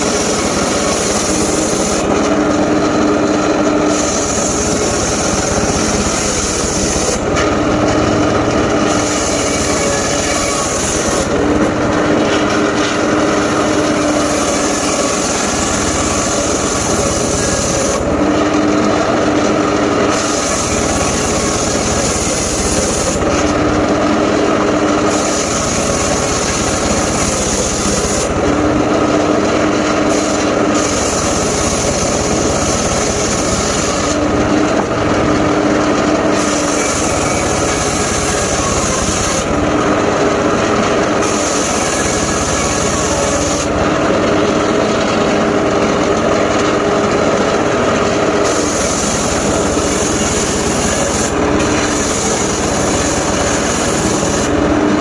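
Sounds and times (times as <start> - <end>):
saw blade spinning free hum: 0.0 - 45.1
circular saw cutting logs: 0.0 - 55.0.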